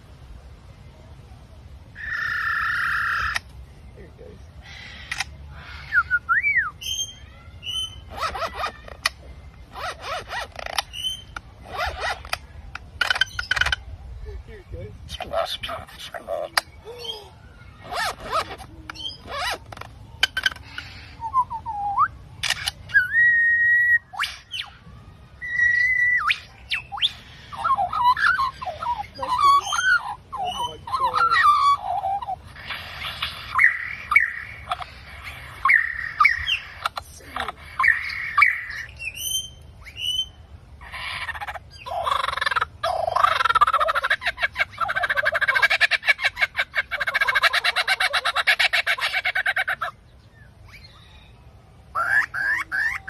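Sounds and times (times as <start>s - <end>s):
bird calling and whistling: 2.0s - 3.5s, 4.5s - 13.9s, 15.0s - 53.0s.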